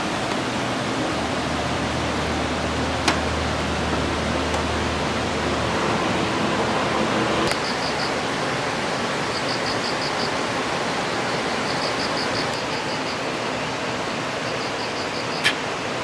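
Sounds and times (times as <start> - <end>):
steady rushing outdoor noise: 0.0 - 16.0.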